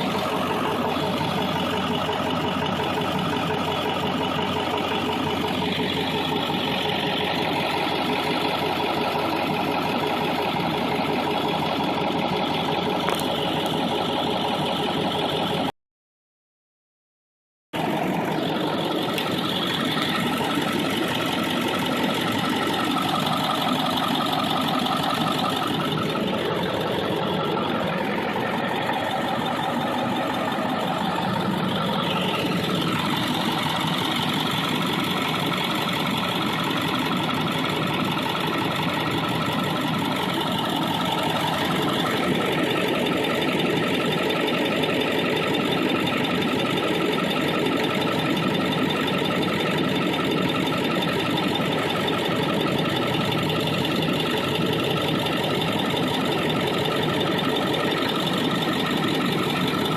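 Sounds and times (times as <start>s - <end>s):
diesel engine idling: 0.0s - 15.7s, 17.8s - 59.9s.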